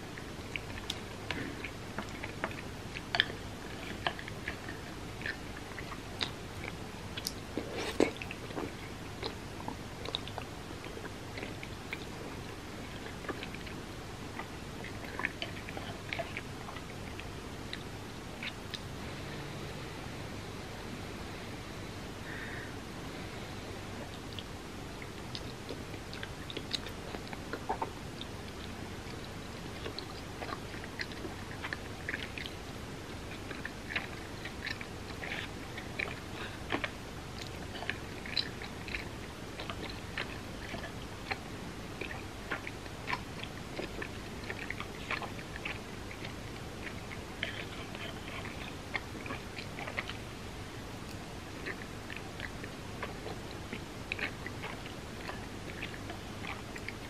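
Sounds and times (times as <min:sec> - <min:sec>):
person chewing food: 0:00.0 - 0:19.7, 0:23.5 - 0:57.0
steady background hiss: 0:00.0 - 0:57.0.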